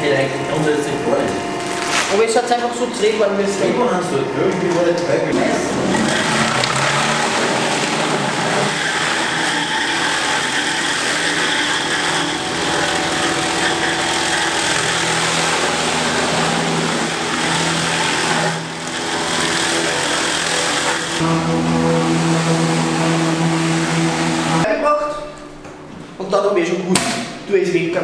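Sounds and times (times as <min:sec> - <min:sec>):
bowl cutter machine running: 0:00.0 - 0:24.8.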